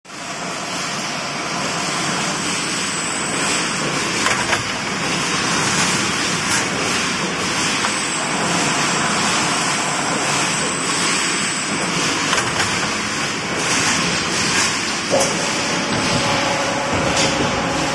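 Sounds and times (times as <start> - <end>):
machine running: 0.1 - 17.9.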